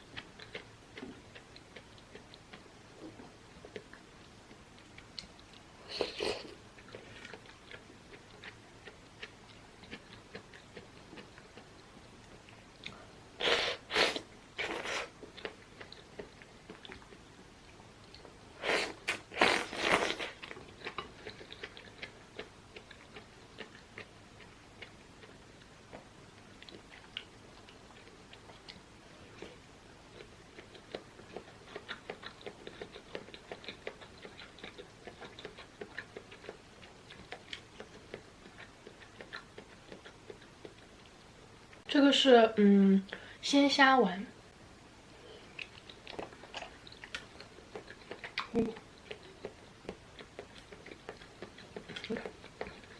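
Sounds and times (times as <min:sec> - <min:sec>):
chewing and wet mouth clicks: 0:00.1 - 0:05.7, 0:06.7 - 0:13.0, 0:14.6 - 0:18.4, 0:19.1 - 0:41.8, 0:45.5 - 0:52.9.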